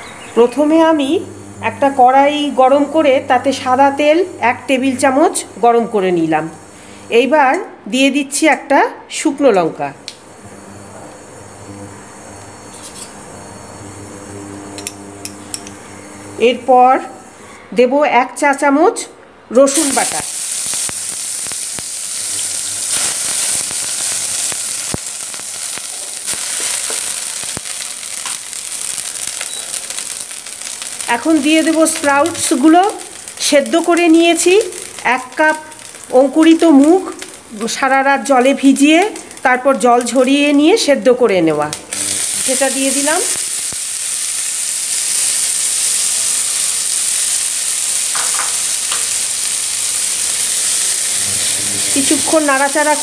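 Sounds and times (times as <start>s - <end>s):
garlic and chilli sizzling in oil: 0.0s - 18.8s, 19.5s - 53.0s.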